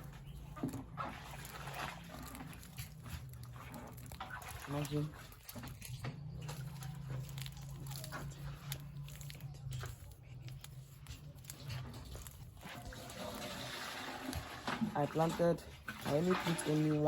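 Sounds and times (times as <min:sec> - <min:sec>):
crunching and crackling of soil: 0:00.0 - 0:17.0.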